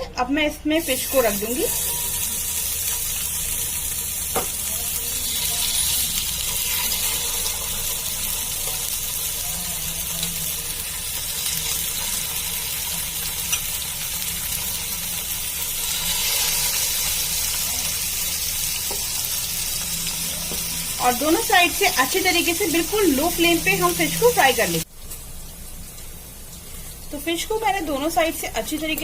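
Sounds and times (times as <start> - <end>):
fish sizzling in a frying pan: 0.8 - 29.0.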